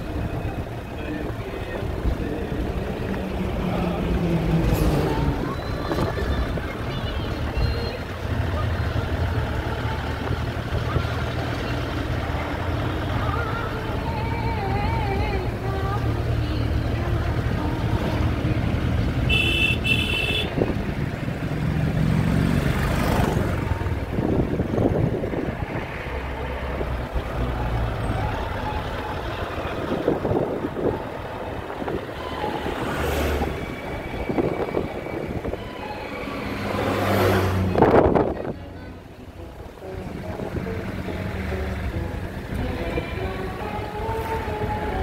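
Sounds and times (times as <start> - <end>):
engine and tyre rumble: 0.0 - 45.0.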